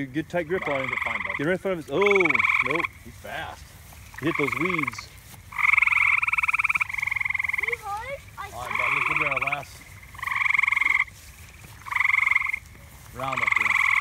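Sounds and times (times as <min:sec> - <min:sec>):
frogs trilling: 0:00.0 - 0:14.0.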